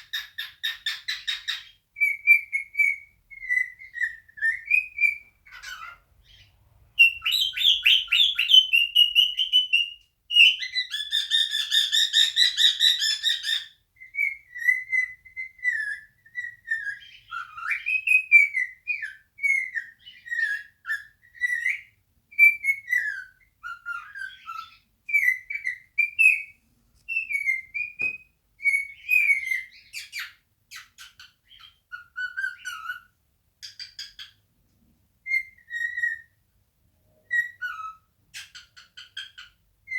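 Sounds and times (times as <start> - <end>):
cockatiel whistling: 0.1 - 6.4, 7.0 - 26.5, 27.1 - 34.3, 35.2 - 36.4, 37.2 - 39.9.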